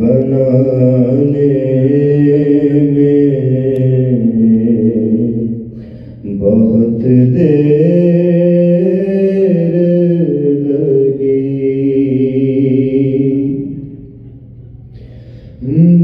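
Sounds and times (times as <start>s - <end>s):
man chanting a lament: 0.0s - 5.6s, 6.2s - 13.9s, 15.6s - 16.0s.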